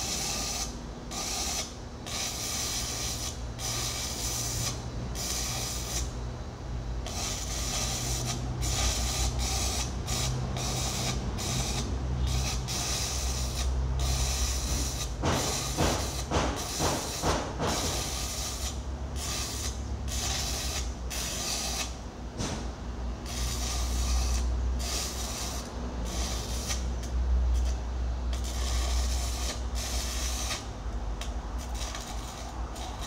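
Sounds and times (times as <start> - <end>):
welding arc crackling hiss: 0.0 - 6.2, 7.0 - 33.0.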